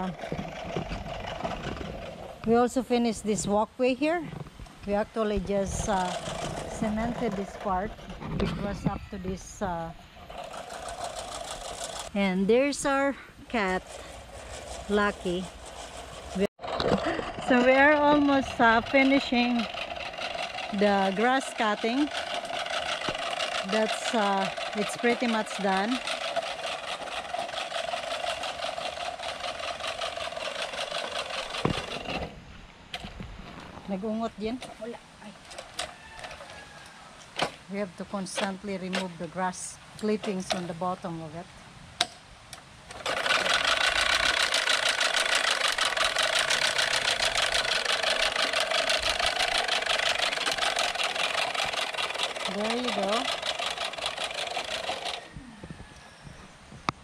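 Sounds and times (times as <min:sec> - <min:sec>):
reel mower whirring and clicking: 0:00.0 - 0:03.4, 0:04.3 - 0:37.6, 0:38.2 - 0:41.0, 0:42.5 - 0:56.1.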